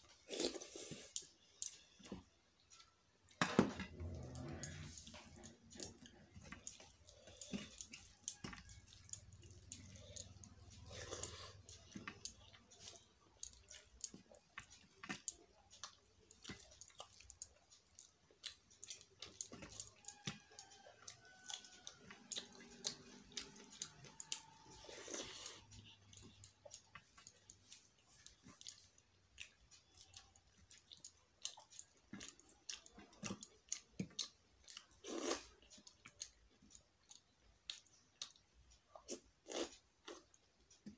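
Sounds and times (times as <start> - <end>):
chewing: 0.0 - 40.9
fingers mixing rice on plate: 4.0 - 40.9.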